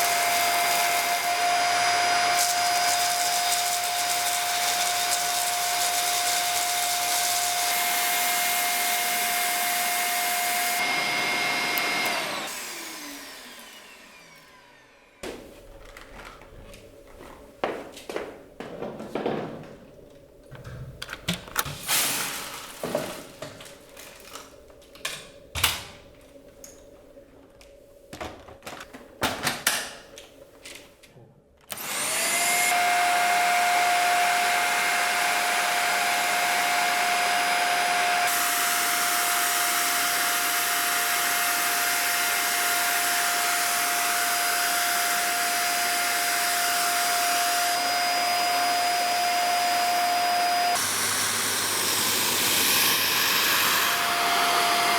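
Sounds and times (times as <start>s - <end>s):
vacuum cleaner whine: 0.0s - 17.8s, 21.3s - 25.0s, 31.7s - 54.9s.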